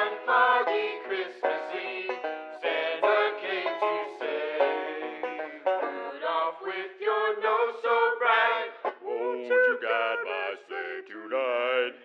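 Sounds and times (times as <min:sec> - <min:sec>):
men singing: 0:00.0 - 0:12.0.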